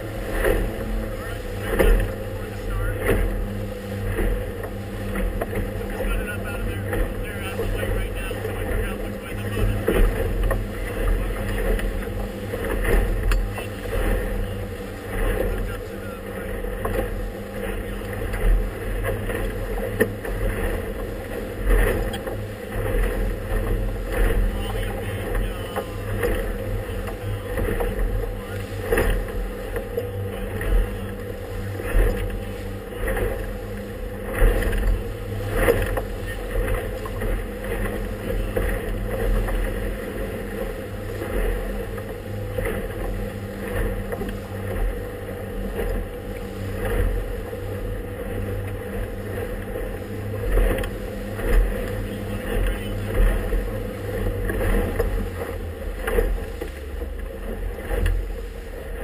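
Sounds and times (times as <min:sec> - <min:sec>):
hull slapping on waves: 0:00.0 - 0:59.0
motorboat engine drone: 0:00.0 - 0:59.0.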